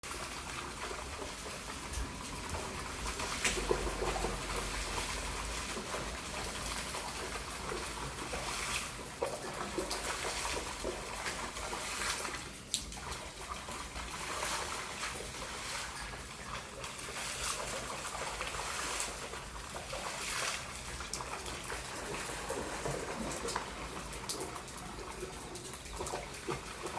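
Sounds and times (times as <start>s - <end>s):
small splashes: 0.0s - 26.9s
water trickling and splashing: 0.0s - 26.9s.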